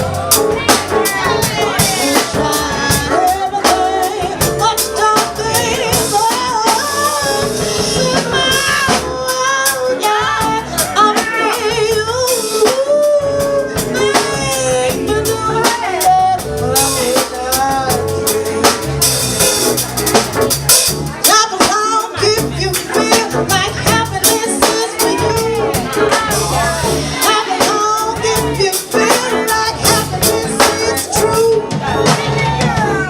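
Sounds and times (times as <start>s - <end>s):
drum kit beat: 0.0s - 33.0s.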